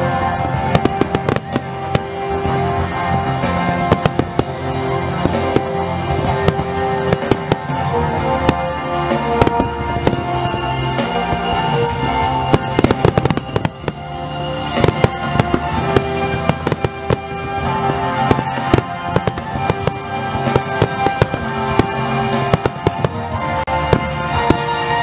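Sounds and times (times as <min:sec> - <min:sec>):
fireworks bangs: 0:00.0 - 0:25.0
music: 0:00.0 - 0:25.0.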